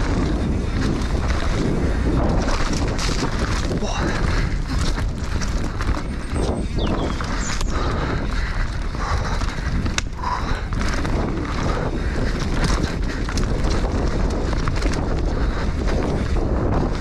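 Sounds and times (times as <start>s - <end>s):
bike clicks and knocks: 0.0s - 17.0s
bike tyres rumbling on dirt: 0.0s - 17.0s
wind buffeting microphone: 0.0s - 17.0s.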